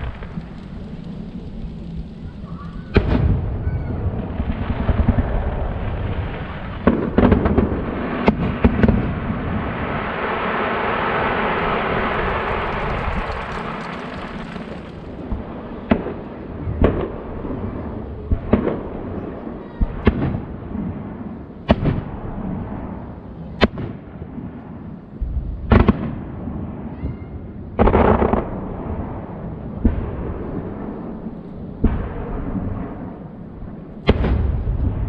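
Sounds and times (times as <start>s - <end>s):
firework crackling: 0.0s - 35.0s
firework bangs echoing: 2.3s - 35.0s.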